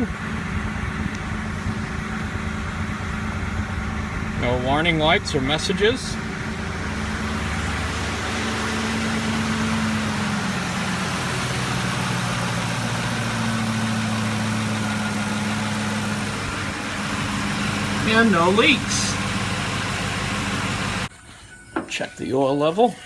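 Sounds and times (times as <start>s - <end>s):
pickup engine idling: 0.0s - 21.1s.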